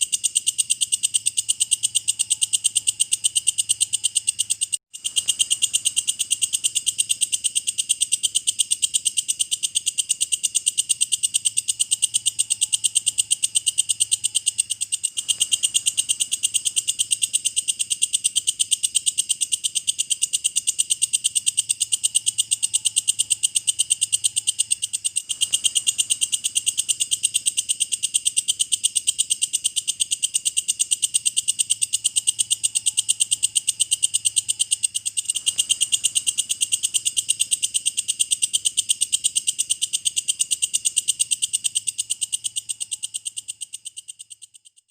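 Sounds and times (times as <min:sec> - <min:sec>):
grasshopper chirping: 0:00.0 - 0:44.9.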